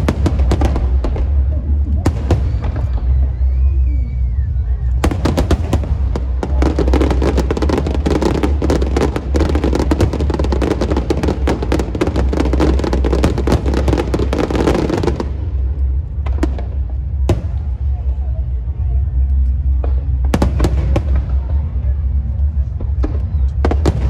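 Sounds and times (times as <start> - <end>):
firecrackers crackling: 0.0 - 24.0
low rumble: 0.0 - 24.0.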